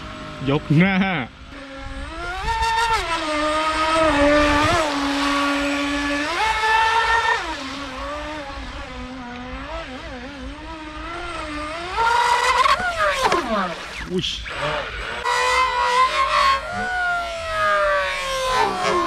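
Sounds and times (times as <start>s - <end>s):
model speedboat motor whining: 0.0s - 19.0s.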